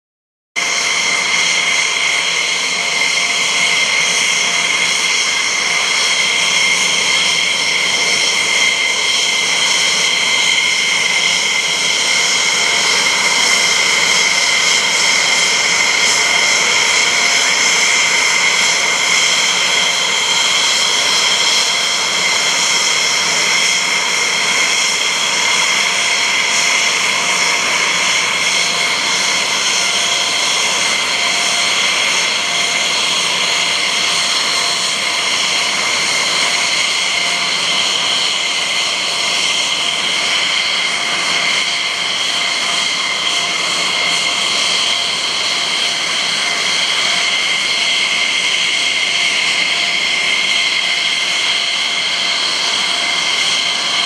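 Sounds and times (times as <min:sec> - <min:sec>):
jet engines at takeoff power: 0:00.6 - 0:54.0.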